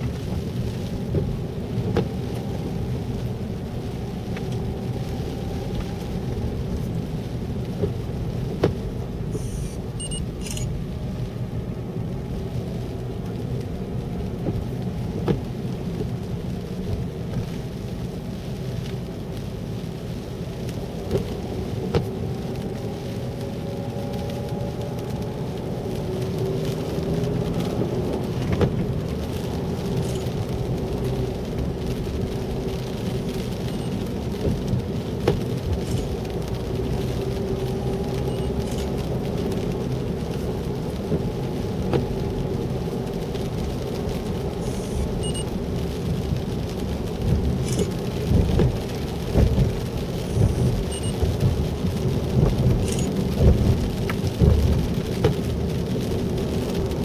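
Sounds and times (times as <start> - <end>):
car rumbling on wet road: 0.0 - 57.0
rain spattering windshield: 0.0 - 57.0.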